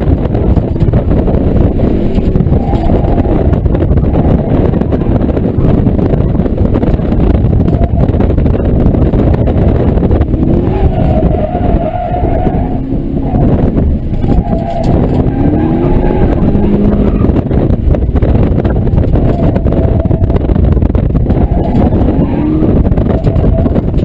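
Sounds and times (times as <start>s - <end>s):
car engine running hard: 0.0s - 24.0s
road noise: 0.0s - 24.0s.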